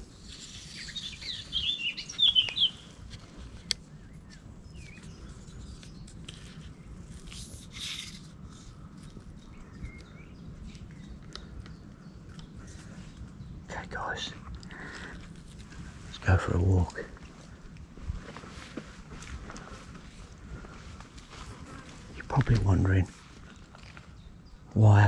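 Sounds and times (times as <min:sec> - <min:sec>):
small birds chirping: 0:00.0 - 0:17.8, 0:18.5 - 0:25.0.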